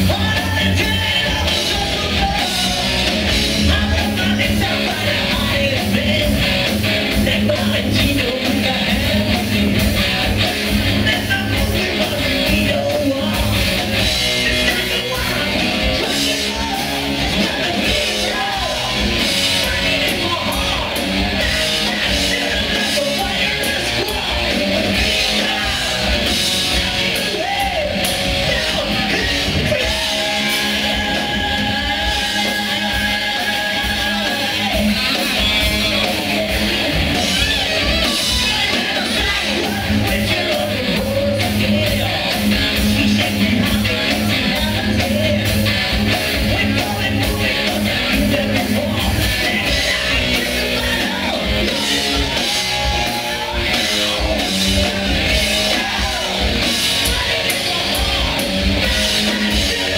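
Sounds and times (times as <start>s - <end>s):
bass guitar: 0.0s - 59.9s
drums: 0.0s - 59.9s
electric guitars: 0.0s - 59.9s
person singing: 0.0s - 59.9s.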